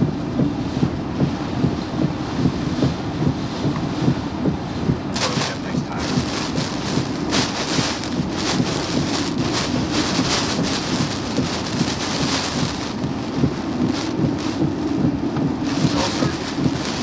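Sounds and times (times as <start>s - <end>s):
heavy rain against vehicle: 0.0s - 17.0s
wind gusts: 0.0s - 17.0s.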